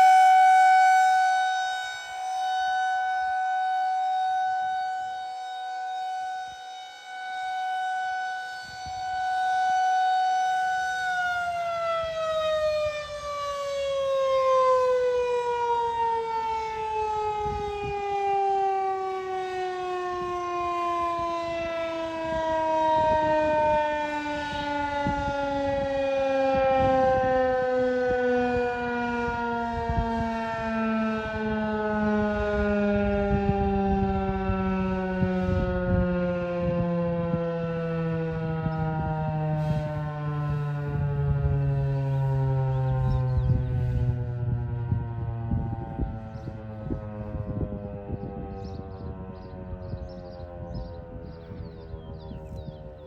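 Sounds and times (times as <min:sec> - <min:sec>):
warning siren winding down: 0:00.0 - 0:53.0.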